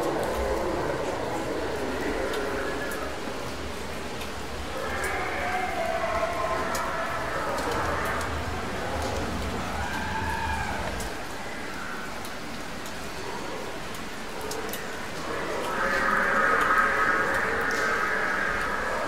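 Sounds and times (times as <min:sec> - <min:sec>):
long wavering howls: 0:00.0 - 0:19.0.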